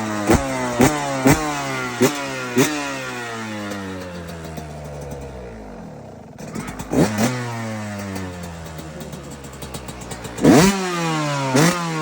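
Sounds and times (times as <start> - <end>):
two-stroke engine revving: 0.0 - 12.0.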